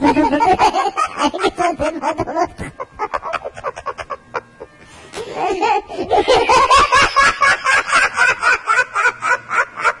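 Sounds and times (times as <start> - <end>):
person laughing heartily: 0.0 - 10.0.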